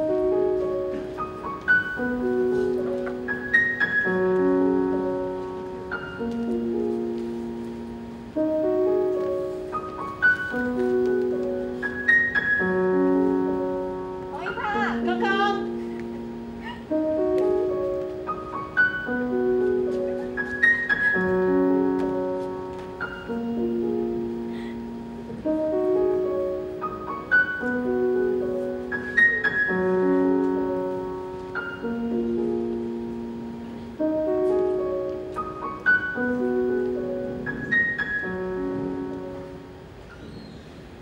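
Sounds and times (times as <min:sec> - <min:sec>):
slow piano music: 0:00.0 - 0:41.0.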